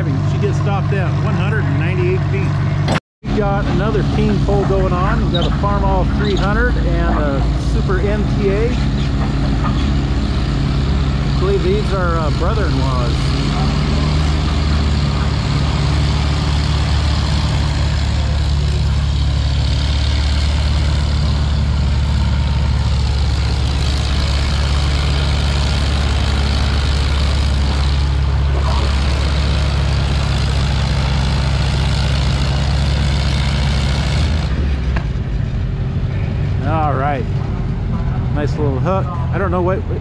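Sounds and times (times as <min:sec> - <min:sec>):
tractor engines running under load: 0:00.0 - 0:40.0.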